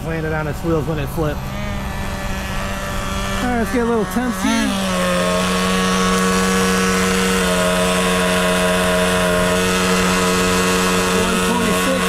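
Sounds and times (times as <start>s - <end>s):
model engine running at high revs: 0.0s - 12.0s.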